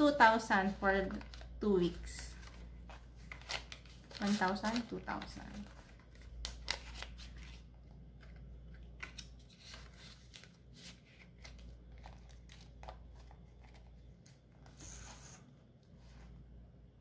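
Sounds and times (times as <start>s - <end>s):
paper banknotes rustling: 0.1s - 14.4s.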